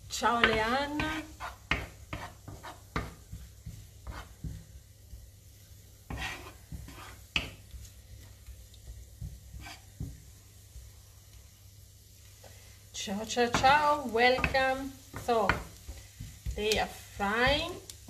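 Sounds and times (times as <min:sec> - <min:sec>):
wooden spatula scraping a pan: 0:00.0 - 0:11.1, 0:12.2 - 0:18.0
leeks sizzling: 0:00.0 - 0:18.0.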